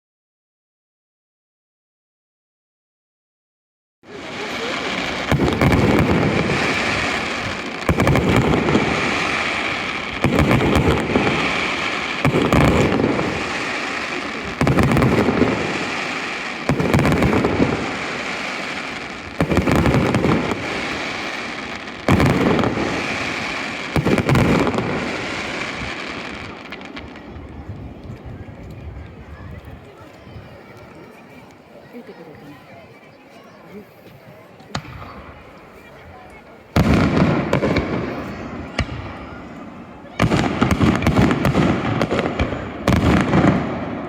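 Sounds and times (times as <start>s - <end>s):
fireworks booming overhead: 4.0s - 44.0s.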